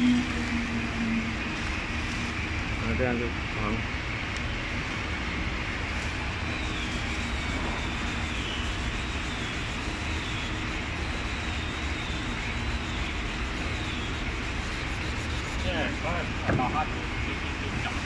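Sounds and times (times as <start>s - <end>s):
faint high whine: 0.0s - 18.0s
machinery drone with low rumble: 0.0s - 18.0s.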